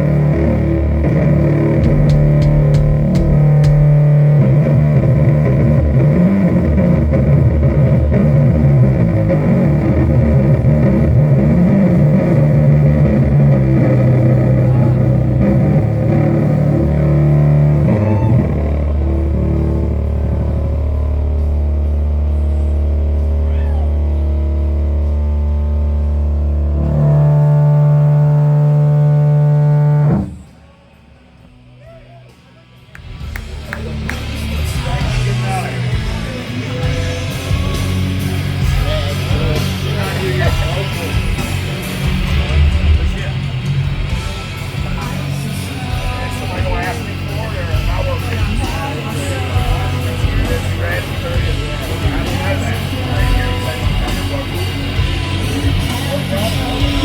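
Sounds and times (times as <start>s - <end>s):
distorted guitar and bass riff: 0.0s - 30.7s, 33.1s - 57.0s.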